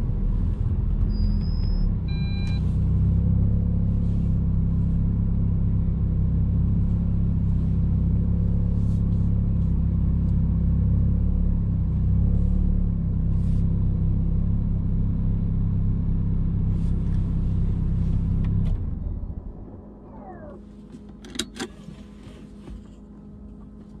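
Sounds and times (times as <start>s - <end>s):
car engine idling inside cabin: 0.0s - 24.0s.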